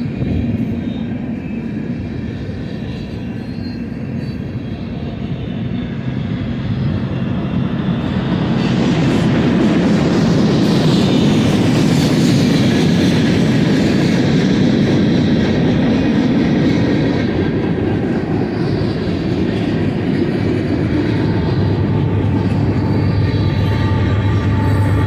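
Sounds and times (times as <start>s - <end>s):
diesel locomotive engine hum: 0.0s - 25.0s
train wheels on rails: 0.0s - 25.0s.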